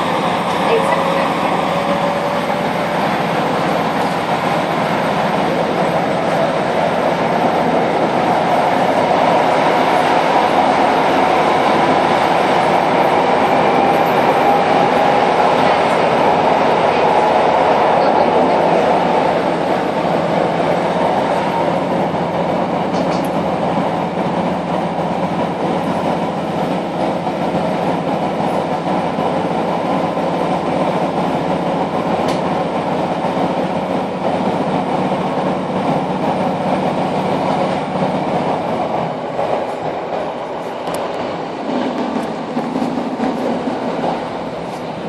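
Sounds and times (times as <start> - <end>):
train running at speed: 0.0 - 45.0.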